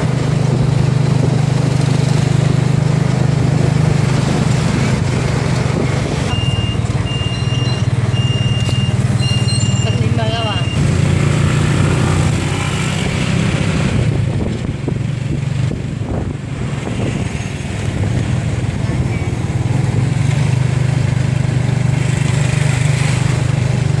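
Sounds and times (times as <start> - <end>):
motorcycle engine running: 0.0 - 24.0
road noise: 0.0 - 24.0.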